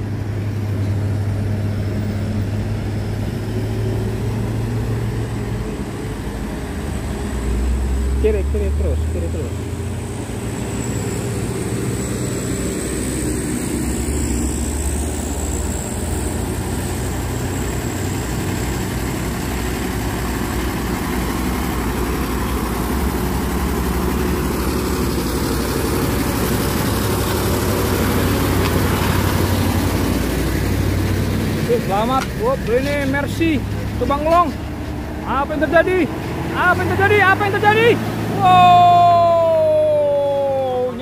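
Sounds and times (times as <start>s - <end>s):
diesel truck engine passing: 0.0s - 41.0s.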